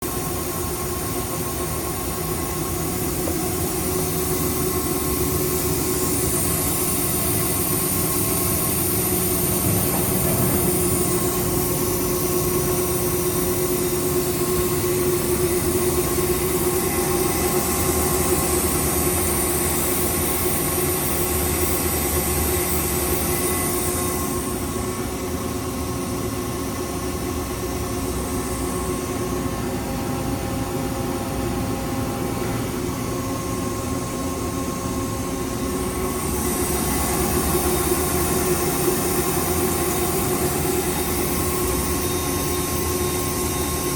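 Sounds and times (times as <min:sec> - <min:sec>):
lathe mechanical hum and whine: 0:00.0 - 0:43.9.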